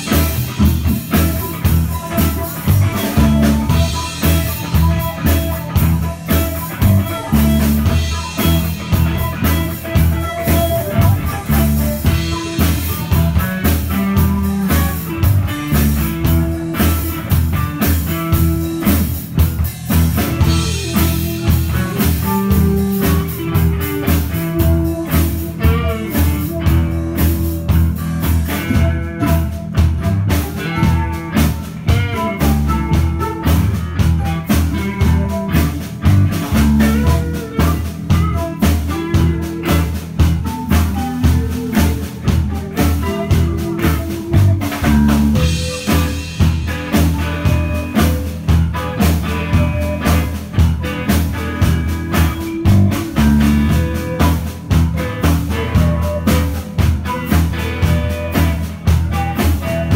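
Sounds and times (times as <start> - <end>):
flute: 0.0 - 19.4, 20.0 - 59.9
bass guitar: 0.0 - 59.9
drum kit: 0.0 - 59.9
electric guitar: 0.0 - 59.9.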